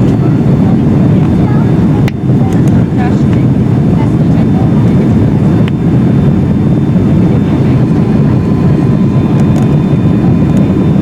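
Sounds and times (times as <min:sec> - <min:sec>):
airplane cabin roar: 0:00.0 - 0:11.0.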